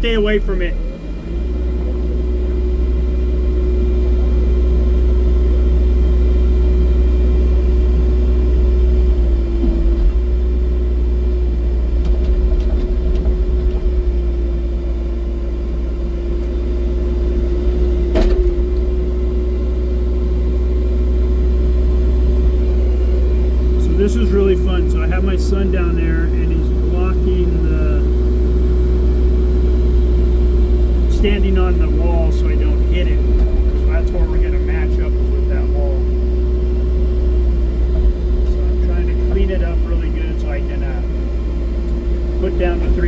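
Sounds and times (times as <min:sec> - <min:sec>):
diesel engine droning: 0:00.0 - 0:43.0
hydraulic whine: 0:00.0 - 0:43.0.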